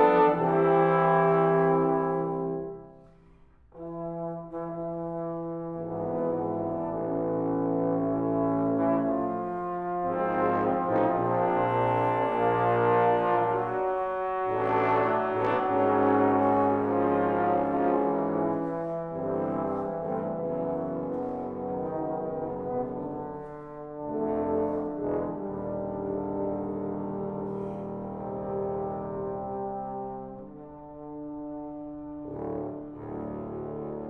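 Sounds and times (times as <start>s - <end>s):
trombones playing sustained chords: 0.0s - 34.0s.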